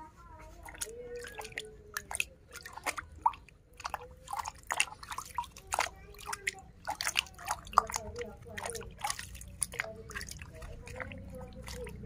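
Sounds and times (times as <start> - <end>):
water splashing in bucket: 0.5 - 12.0.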